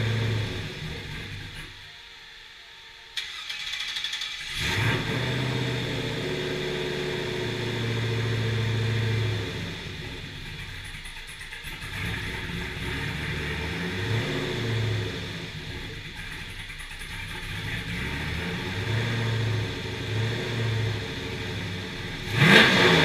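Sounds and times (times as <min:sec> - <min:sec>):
car engine starting and revving: 0:00.0 - 0:02.4, 0:03.1 - 0:23.0.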